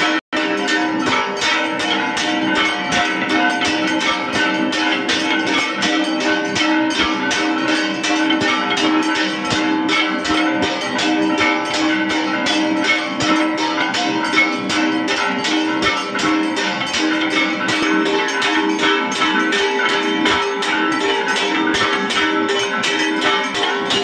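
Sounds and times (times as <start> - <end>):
hand bell rung rapidly: 0.0 - 24.0
temple bells and percussion: 0.0 - 24.0.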